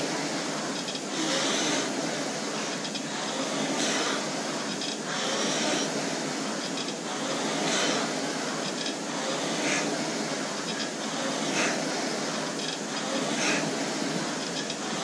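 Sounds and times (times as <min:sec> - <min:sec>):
rowing machine flywheel whooshing: 0:00.0 - 0:15.0.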